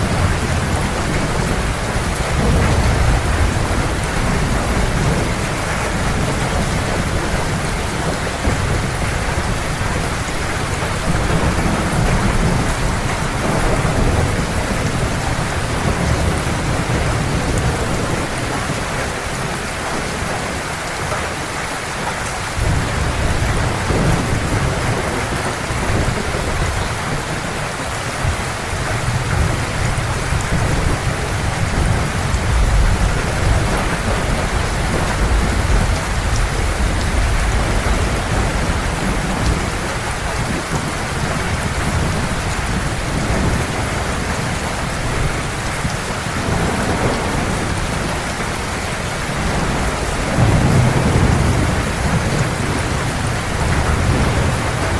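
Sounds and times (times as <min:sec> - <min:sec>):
deep rolling thunder: 0:00.0 - 0:20.3, 0:22.5 - 0:54.9
heavy rain pouring: 0:00.0 - 0:54.9.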